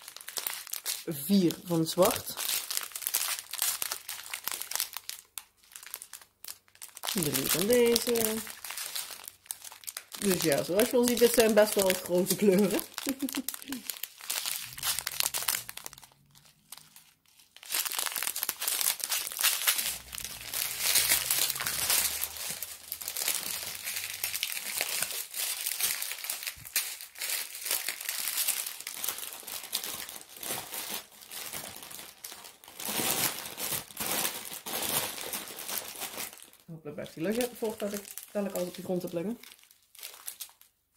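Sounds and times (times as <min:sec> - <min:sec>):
plastic zip bags crinkling: 0:00.0 - 0:40.9.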